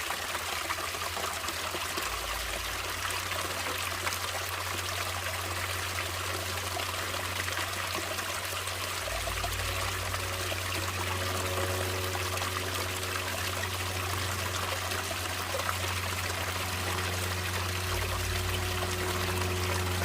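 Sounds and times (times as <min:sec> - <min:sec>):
running water trickling: 0:00.0 - 0:20.0.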